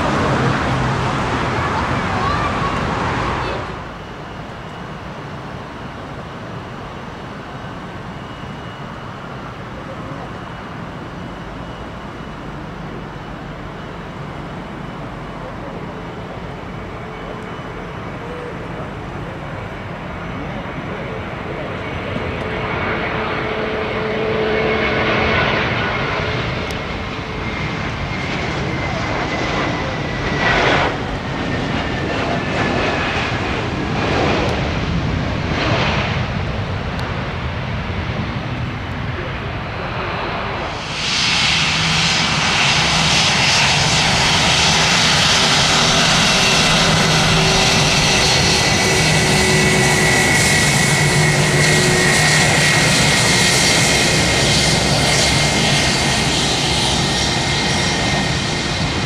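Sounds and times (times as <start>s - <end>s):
jet engines rumbling and whining: 0.0s - 59.0s.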